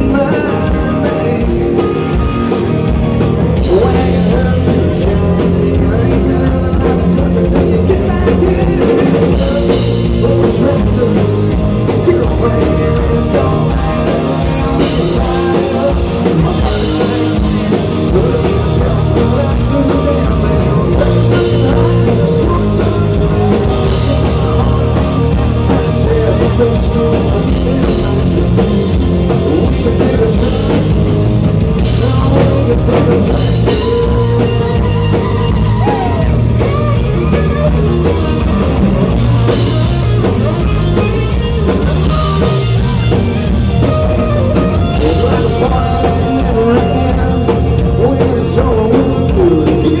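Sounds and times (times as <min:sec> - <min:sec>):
amplified guitars: 0:00.0 - 0:50.0
drum kit: 0:00.0 - 0:50.0
live country band playing: 0:00.0 - 0:50.0.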